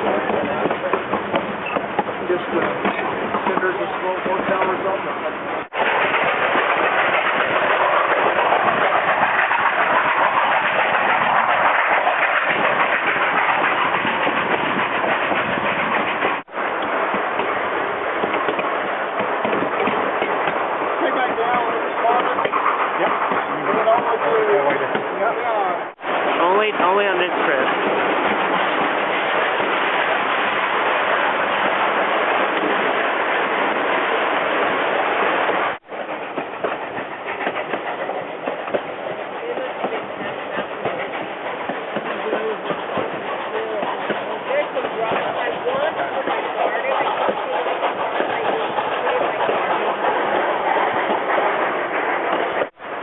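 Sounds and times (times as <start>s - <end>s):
train rumbling along rails: 0.0s - 53.0s.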